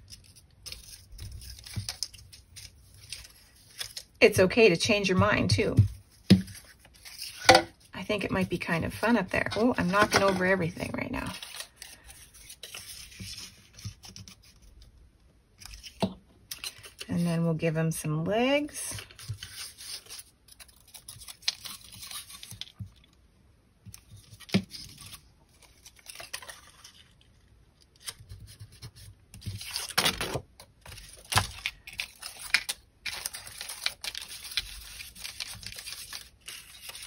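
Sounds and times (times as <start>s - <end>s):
paper rustling and crinkling: 0.0s - 4.2s, 5.7s - 14.8s, 18.9s - 23.1s, 23.9s - 37.0s.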